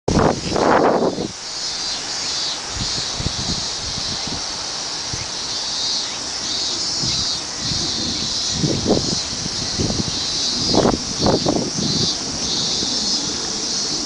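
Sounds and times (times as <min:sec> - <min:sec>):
wind buffeting microphone: 0:00.1 - 0:01.5, 0:02.6 - 0:14.0
steady high hiss: 0:00.1 - 0:14.0.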